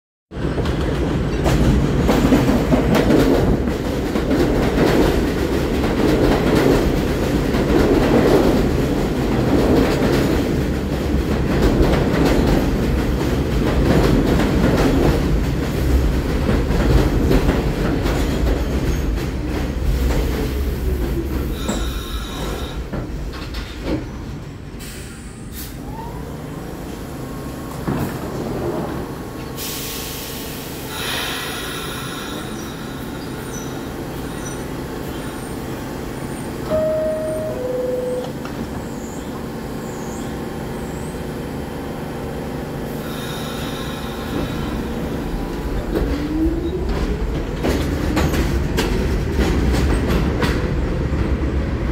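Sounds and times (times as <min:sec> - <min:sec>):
subway train wheels rumbling: 0:00.3 - 0:51.9.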